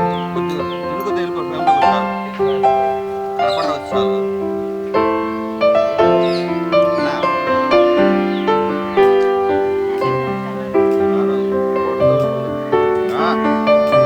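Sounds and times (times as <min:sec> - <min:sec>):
slow instrumental music: 0:00.0 - 0:14.0.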